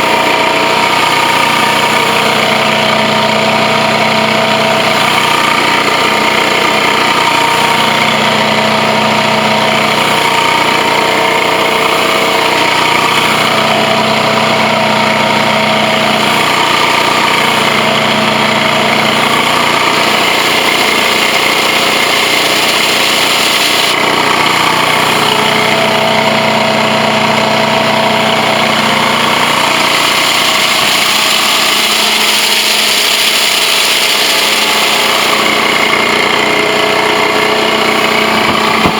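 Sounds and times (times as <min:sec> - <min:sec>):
carpet extractor running: 0:00.0 - 0:38.9.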